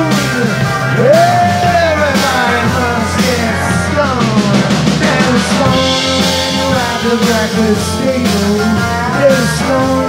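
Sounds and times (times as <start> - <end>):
drum kit: 0.0 - 10.0
electric bass: 0.0 - 10.0
electric guitars: 0.0 - 10.0
lead guitar bending long notes: 0.0 - 10.0.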